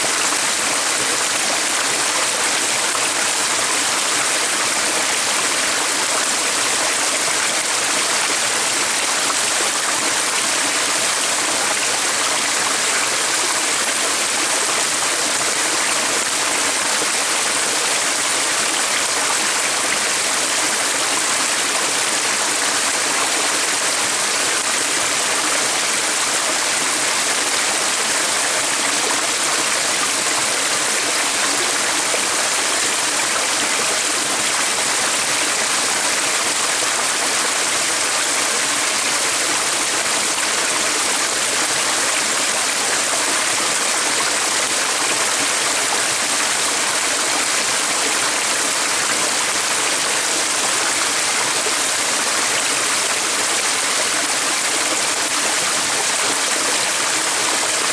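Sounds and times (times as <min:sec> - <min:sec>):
stream water running: 0:00.0 - 0:57.9.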